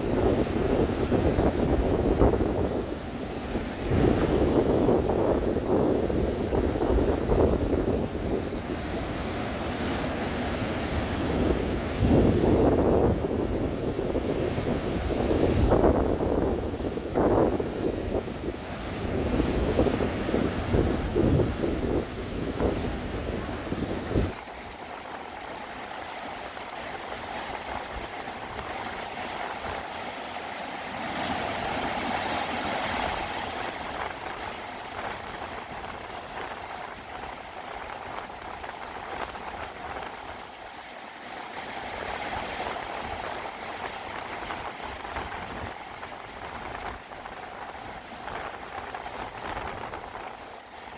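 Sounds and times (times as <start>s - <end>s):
wind buffeting microphone: 0.0s - 29.9s, 31.4s - 40.8s, 41.8s - 50.9s
waves breaking on rocky shore: 0.0s - 50.9s.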